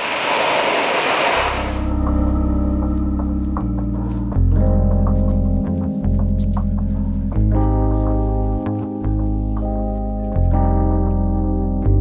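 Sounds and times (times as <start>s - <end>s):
held bass line: 1.6s - 12.0s.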